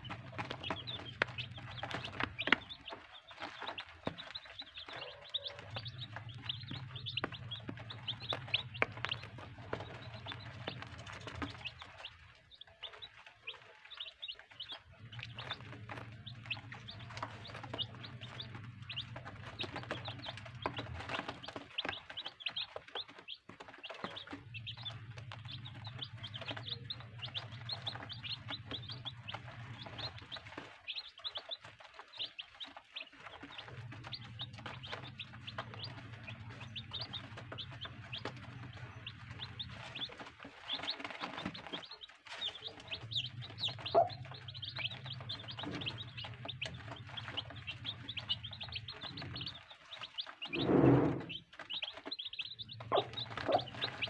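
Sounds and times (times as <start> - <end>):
baby chicks peeping: 0.0 - 54.0.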